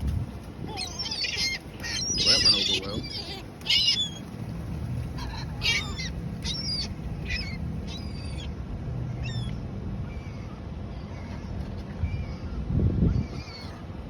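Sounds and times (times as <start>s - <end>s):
seagulls calling: 0.6s - 4.4s, 5.0s - 13.9s.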